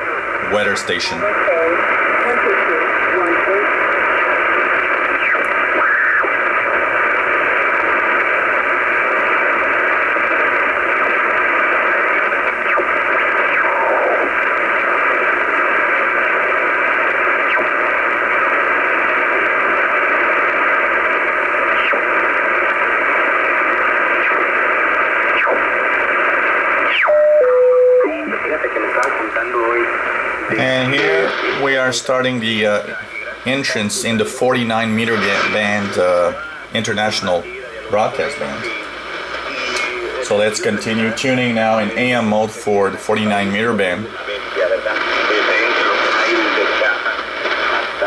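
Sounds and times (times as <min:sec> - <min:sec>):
faint steady tones: 0:00.0 - 0:48.0
radio static hiss: 0:00.0 - 0:48.0.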